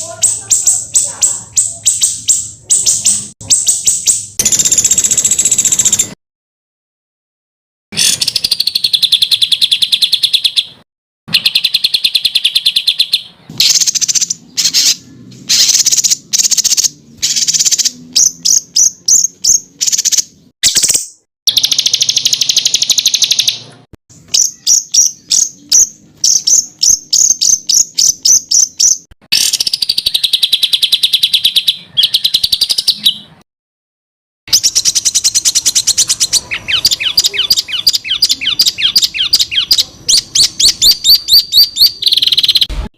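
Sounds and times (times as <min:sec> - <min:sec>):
songbird trilling: 0:00.0 - 0:06.1, 0:08.0 - 0:23.6, 0:24.2 - 0:33.3, 0:34.5 - 0:42.7.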